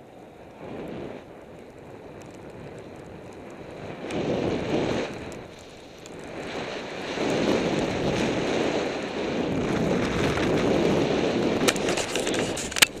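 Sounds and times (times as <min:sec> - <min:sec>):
wind on microphone: 0:00.0 - 0:13.0
skis sliding through snow: 0:00.4 - 0:13.0.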